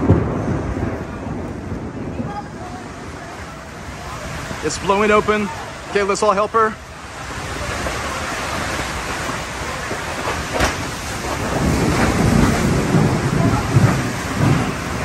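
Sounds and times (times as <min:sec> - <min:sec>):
heavy rain on tent roof: 0:00.0 - 0:15.0
low rumbling: 0:00.0 - 0:15.0.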